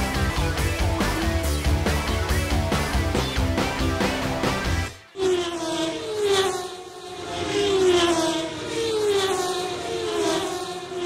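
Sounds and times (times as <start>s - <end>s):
racing cars passing by: 0.1s - 11.0s.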